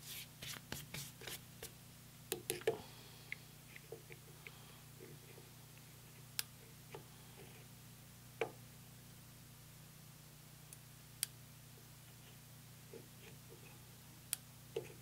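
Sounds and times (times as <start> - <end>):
faint low hum: 0.1 - 15.0.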